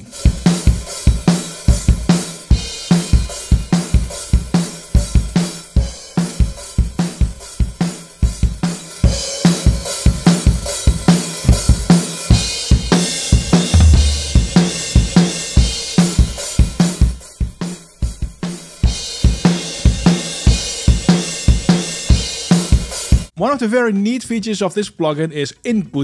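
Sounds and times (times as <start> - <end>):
drum kit groove: 0.0 - 24.6.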